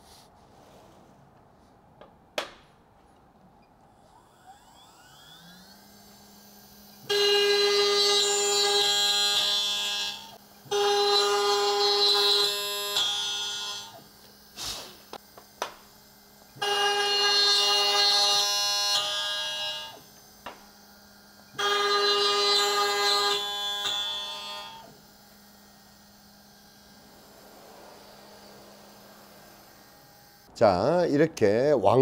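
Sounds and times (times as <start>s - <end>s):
router spinning with whine: 3.8s - 30.5s
end mill cutting wood: 4.1s - 30.5s.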